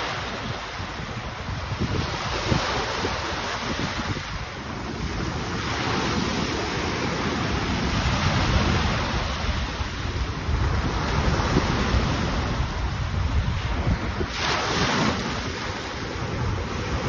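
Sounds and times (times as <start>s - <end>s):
small waves breaking on sand: 0.0s - 17.0s
wind buffeting microphone: 0.0s - 17.0s.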